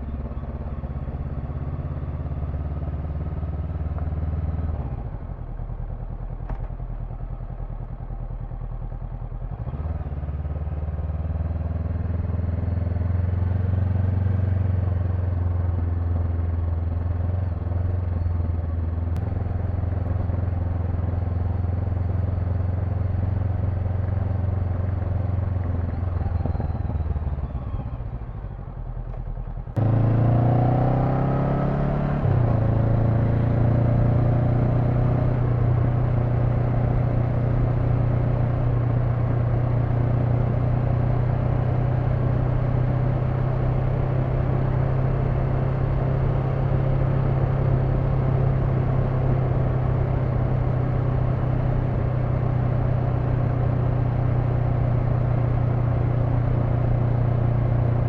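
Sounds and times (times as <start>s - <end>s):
motorcycle engine: 0.0s - 58.0s
road and wind noise: 0.0s - 58.0s.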